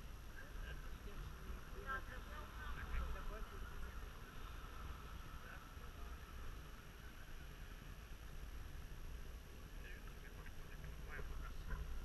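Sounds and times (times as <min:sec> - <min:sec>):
low uneven rumble: 0:00.0 - 0:12.0.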